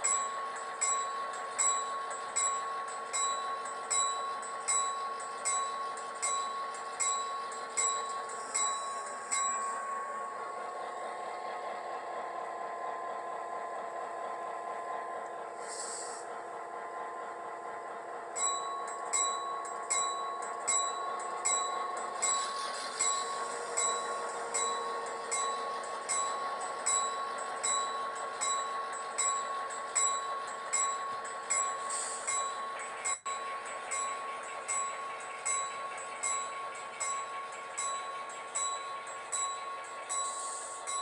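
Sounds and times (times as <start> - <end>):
model diesel locomotive engine drone: 0.0 - 41.0.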